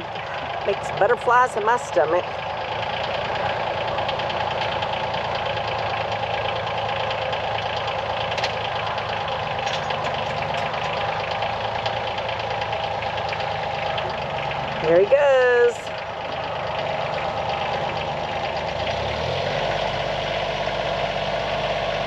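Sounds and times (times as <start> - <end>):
tractor diesel engine clattering: 0.0 - 22.0.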